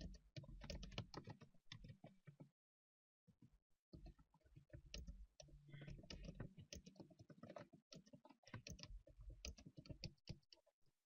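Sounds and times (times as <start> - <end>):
faint keyboard typing: 0.0 - 2.5, 4.0 - 10.7.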